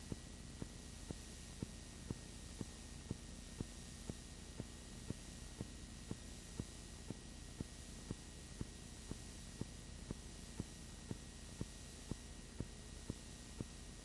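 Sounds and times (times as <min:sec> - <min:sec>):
tape hiss: 0:00.0 - 0:14.0.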